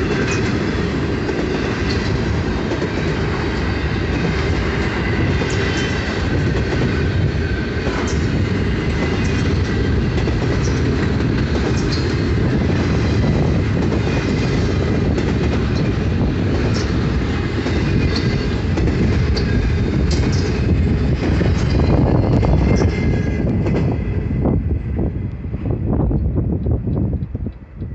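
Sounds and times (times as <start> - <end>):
steel wheels rumbling on rail: 0.0 - 27.9.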